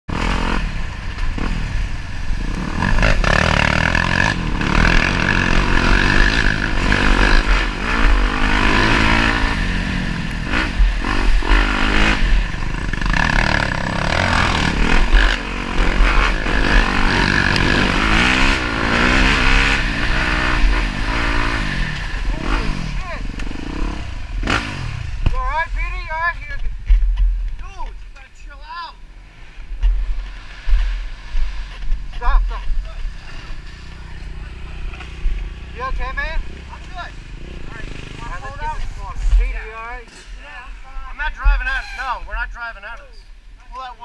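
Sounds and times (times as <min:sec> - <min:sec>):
dirt bike engine revving: 0:00.1 - 0:26.6, 0:29.2 - 0:42.2.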